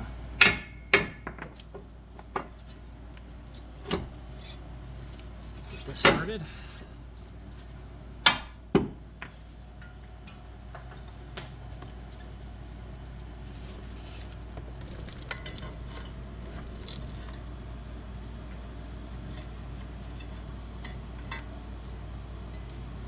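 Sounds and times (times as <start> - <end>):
fan hum: 0.0 - 23.0.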